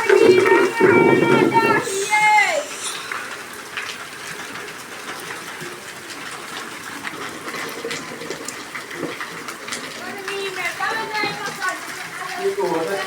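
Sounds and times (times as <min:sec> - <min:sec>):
drops splashing: 0:00.0 - 0:13.0
rain falling: 0:00.0 - 0:13.0.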